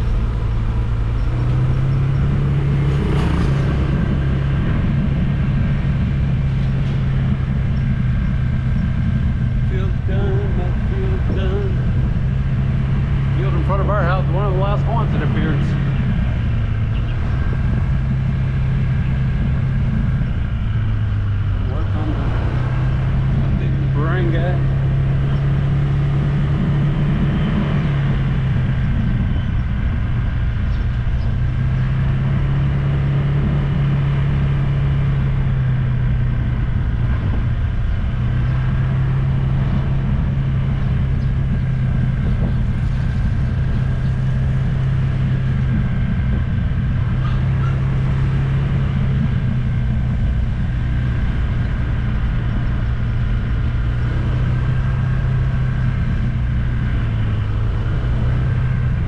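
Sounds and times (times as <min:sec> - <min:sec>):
road rumble: 0:00.0 - 0:59.0
vehicle engine running: 0:00.0 - 0:59.0.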